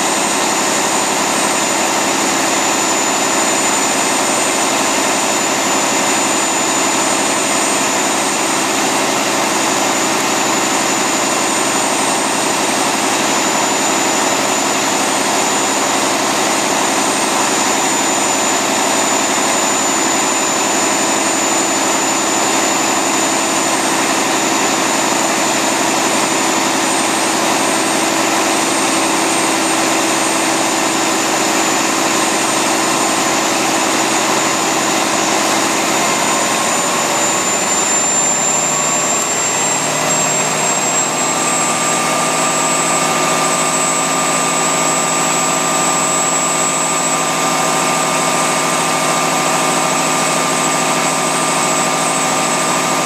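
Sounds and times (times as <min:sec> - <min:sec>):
diesel engine running: 0:00.0 - 0:53.0
turbocharger whine: 0:00.0 - 0:53.0.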